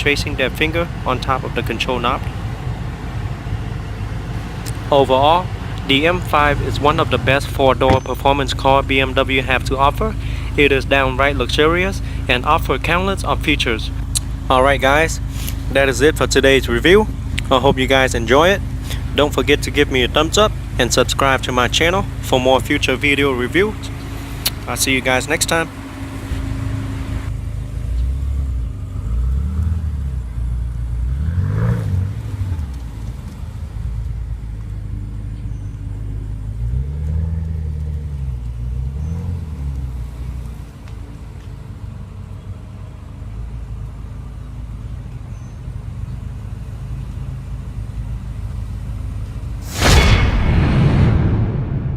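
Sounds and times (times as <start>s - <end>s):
car engine idling and revving: 0.0s - 49.8s.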